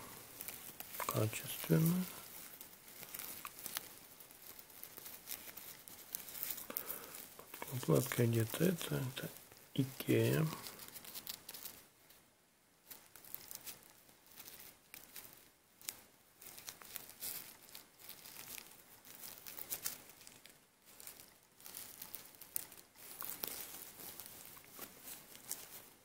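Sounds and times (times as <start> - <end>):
fabric rustling and scratching: 0.0 - 11.9, 12.8 - 26.0.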